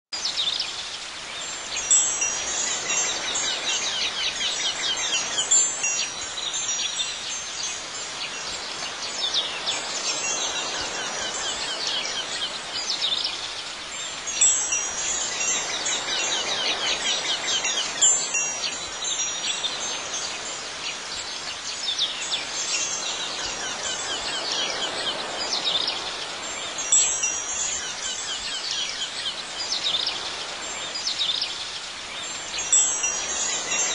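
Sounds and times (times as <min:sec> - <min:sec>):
soft steady hiss: 0:00.2 - 0:33.9
chimes tinkling: 0:01.4 - 0:28.8, 0:32.2 - 0:33.9.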